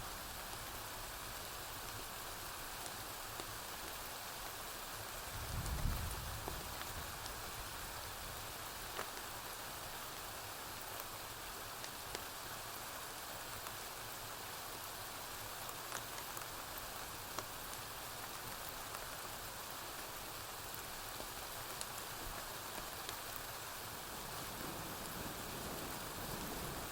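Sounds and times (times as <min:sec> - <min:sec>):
steady rainfall hissing: 0:00.0 - 0:26.9.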